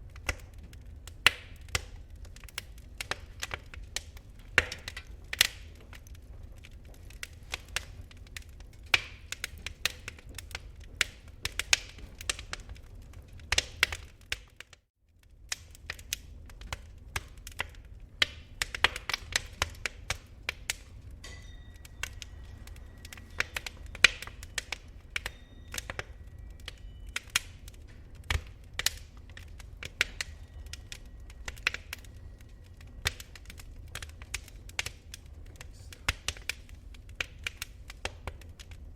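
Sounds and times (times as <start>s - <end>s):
sharp pops and snaps: 0.0s - 38.9s
wood fire crackling: 0.0s - 38.9s.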